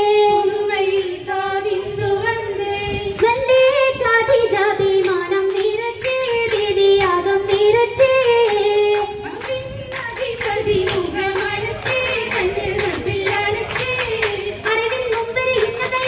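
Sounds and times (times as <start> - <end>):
folk song sung live: 0.0 - 16.0
rhythmic handclaps: 3.1 - 16.0.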